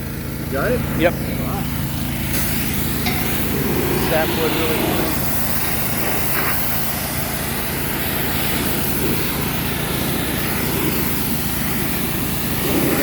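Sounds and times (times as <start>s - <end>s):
sawmill engine running: 0.0s - 13.0s
steady hiss: 0.5s - 13.0s.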